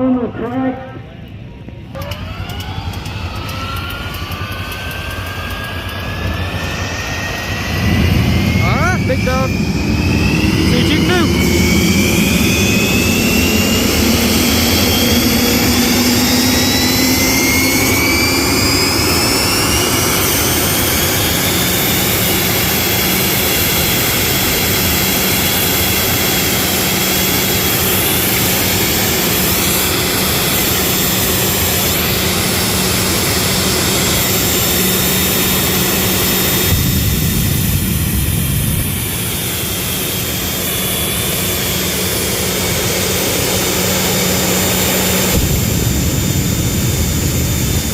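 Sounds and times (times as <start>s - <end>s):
jet engine whine: 0.0s - 47.9s.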